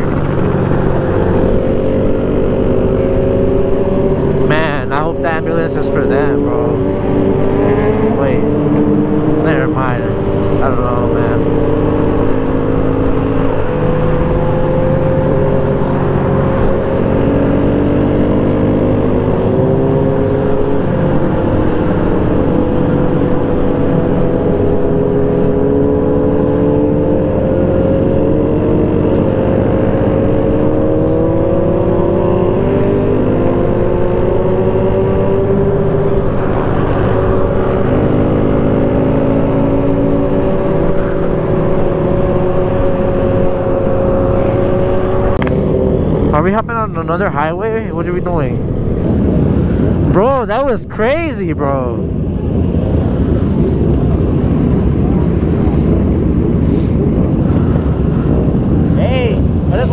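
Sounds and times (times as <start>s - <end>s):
motorcycle engine running: 0.0s - 50.4s
low wind rumble: 0.0s - 59.9s.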